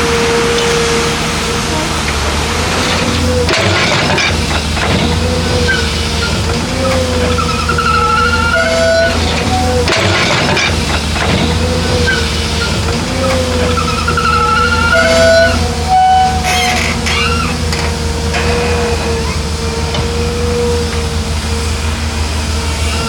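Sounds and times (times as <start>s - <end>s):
diesel engine hum: 0.0s - 23.0s
high whistling tones: 0.0s - 23.0s.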